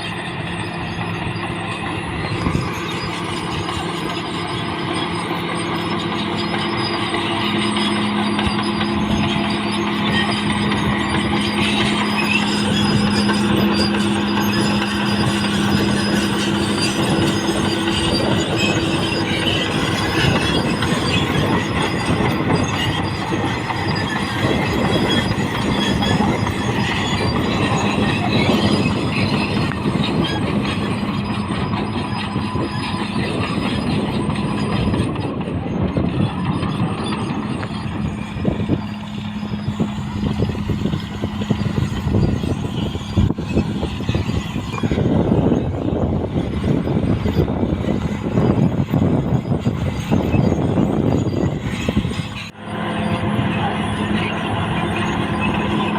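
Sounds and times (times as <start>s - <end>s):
bulldozer diesel engine droning: 0.0s - 55.9s
steel tracks clanking and squealing: 0.0s - 55.9s.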